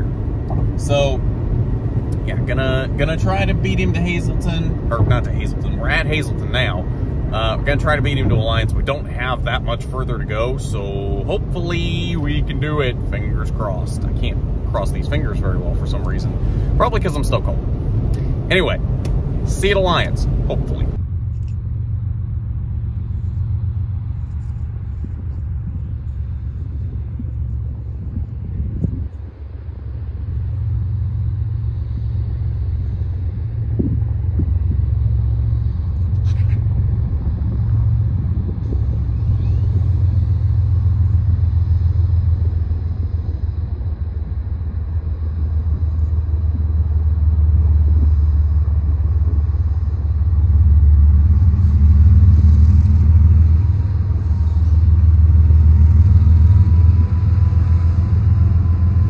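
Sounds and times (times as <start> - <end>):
freight train diesel locomotives rumbling: 0.0 - 59.0.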